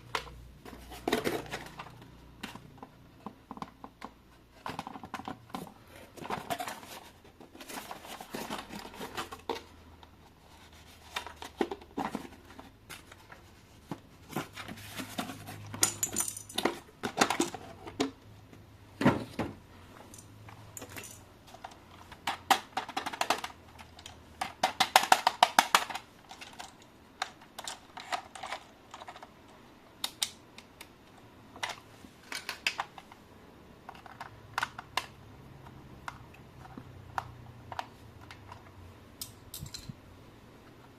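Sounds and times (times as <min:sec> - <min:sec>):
plastic parts clicking and tapping: 0:00.0 - 0:40.0.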